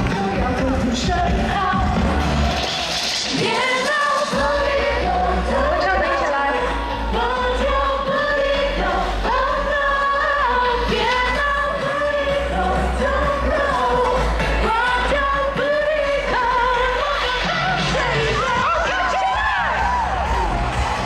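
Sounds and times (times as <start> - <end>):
heavy bass: 0.0 - 3.7, 4.3 - 21.0
live pop song with singing: 0.0 - 21.0.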